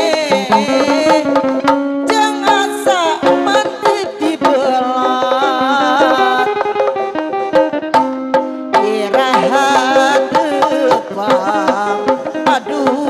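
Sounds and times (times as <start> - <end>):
drums beating fast: 0.0 - 13.0
wavering held melody: 0.0 - 13.0.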